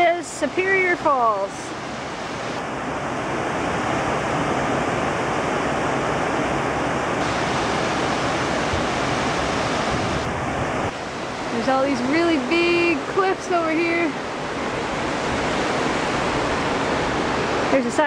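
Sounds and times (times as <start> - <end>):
waterfall rushing: 0.4 - 18.0.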